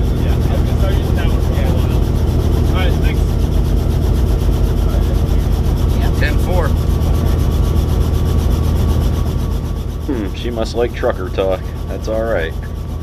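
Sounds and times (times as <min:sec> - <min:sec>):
helicopter engine and rotor hum: 0:00.0 - 0:13.0.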